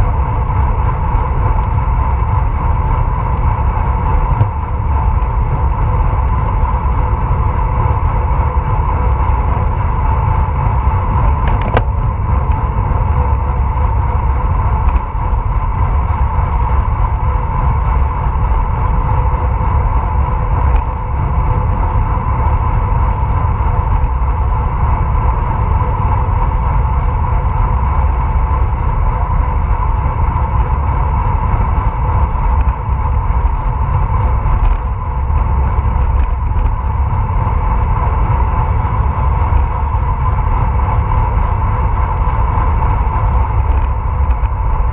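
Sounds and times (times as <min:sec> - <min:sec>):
road rumble: 0:00.0 - 0:44.9
steady hum: 0:00.0 - 0:44.9
wind rush on microphone: 0:00.0 - 0:44.9.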